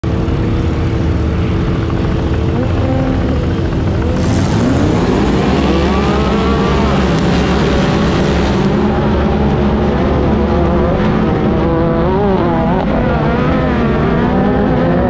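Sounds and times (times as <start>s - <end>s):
rush of wind and sand: 0.0s - 15.0s
utv engines accelerating: 0.0s - 15.0s.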